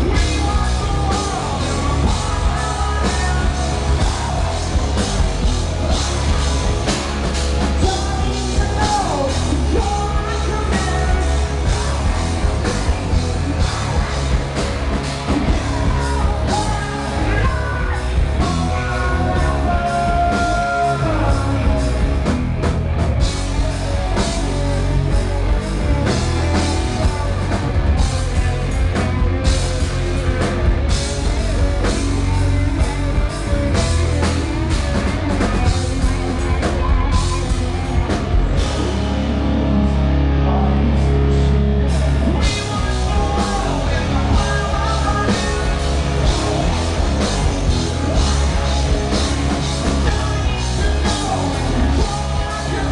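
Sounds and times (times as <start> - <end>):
person singing: 0.0 - 22.3, 23.4 - 52.9
rock band playing live: 0.0 - 52.9.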